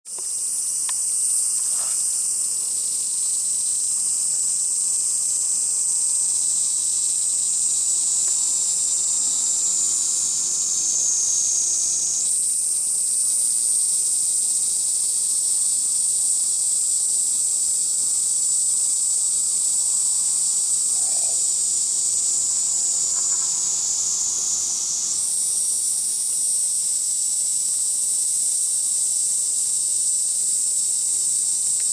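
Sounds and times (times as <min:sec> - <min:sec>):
cicadas shrilling in chorus: 0:00.1 - 0:31.9.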